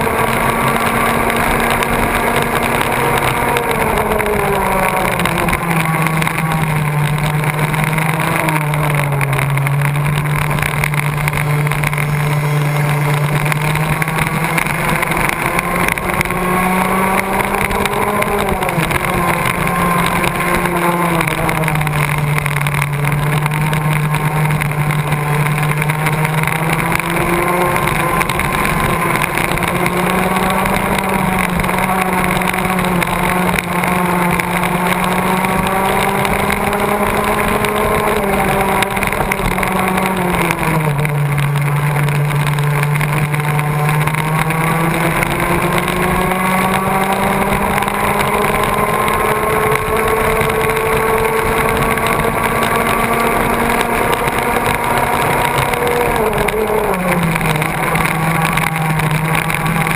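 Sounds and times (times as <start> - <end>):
go-kart engine racing: 0.0 - 59.9.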